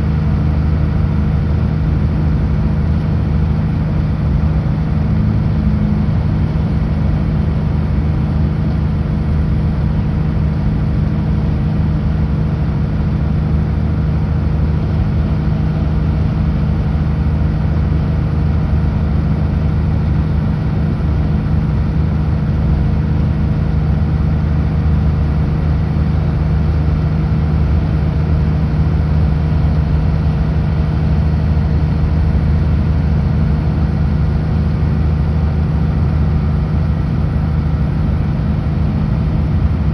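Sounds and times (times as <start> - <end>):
truck diesel engine cruising: 0.0 - 39.9.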